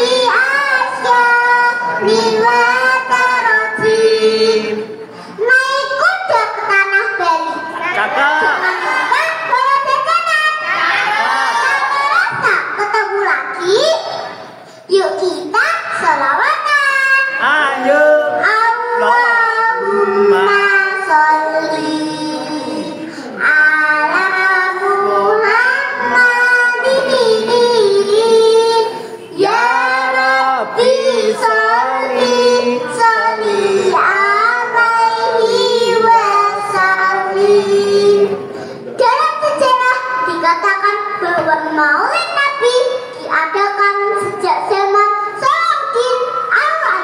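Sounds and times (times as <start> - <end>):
girl singing: 0.0 - 7.7, 8.6 - 10.7, 11.8 - 14.2, 14.9 - 17.6, 18.2 - 47.0.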